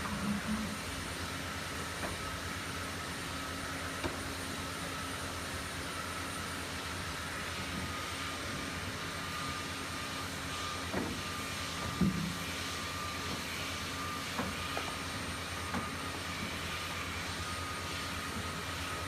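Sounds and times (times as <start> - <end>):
mechanical drone with whine: 0.0 - 19.0.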